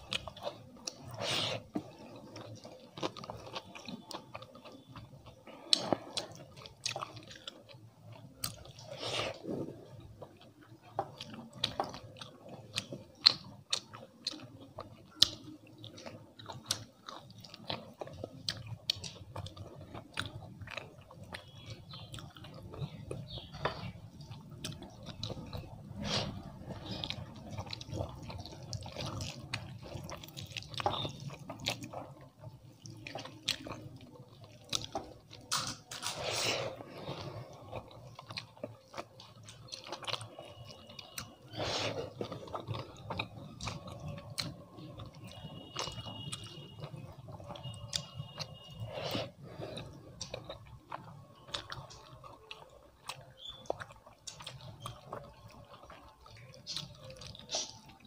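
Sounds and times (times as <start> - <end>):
close chewing: 0.0 - 58.0
wet squishing of food by hand: 0.0 - 58.0.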